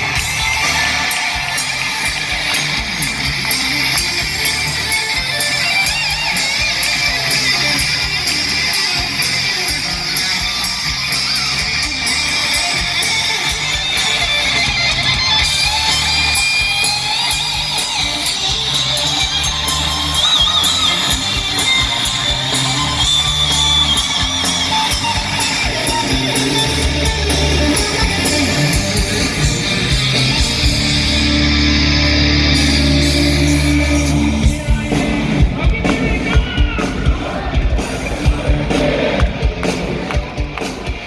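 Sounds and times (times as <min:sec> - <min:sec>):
cymbals ticking rapidly: 0:00.0 - 0:37.1
high wavering guitar line: 0:00.0 - 0:37.1
live hard rock band: 0:00.0 - 0:41.0.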